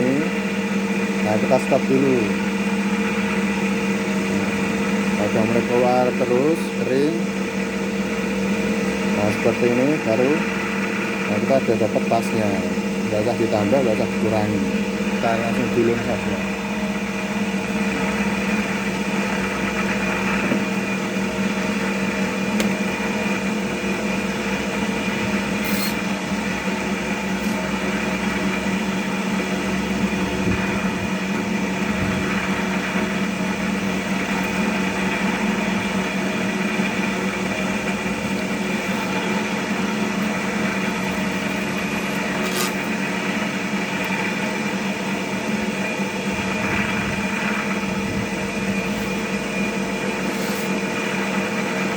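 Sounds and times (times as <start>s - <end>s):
cotton candy machine whirring: 0.0s - 51.9s.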